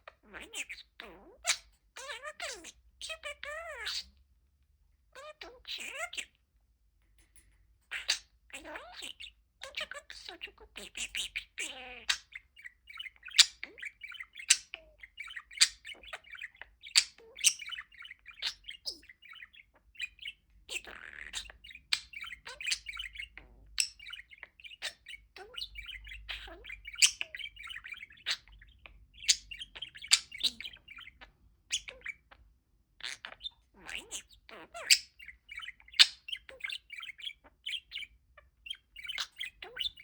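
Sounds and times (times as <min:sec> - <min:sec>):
budgerigar high tweets: 0:00.0 - 0:04.2, 0:05.2 - 0:06.4, 0:07.2 - 0:40.0
budgerigar chattering: 0:00.1 - 0:04.2, 0:07.9 - 0:32.4, 0:33.0 - 0:40.0.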